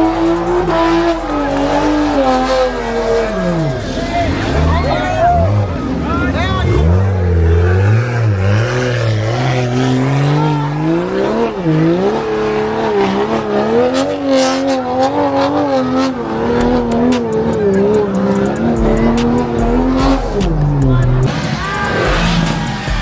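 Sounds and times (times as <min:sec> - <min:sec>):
car engine revving hard: 0:00.0 - 0:23.0
tyres squealing: 0:00.0 - 0:23.0.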